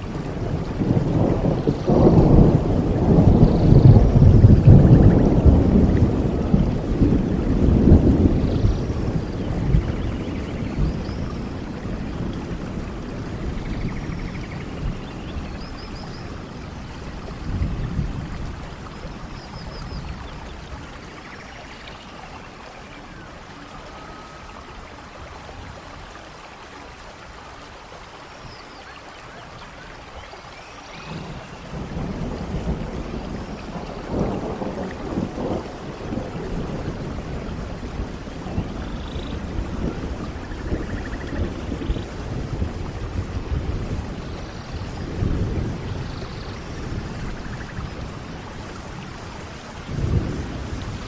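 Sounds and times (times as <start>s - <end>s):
thunder rumbling: 0.0s - 26.1s, 31.0s - 51.0s
heavy rain falling: 0.0s - 51.0s.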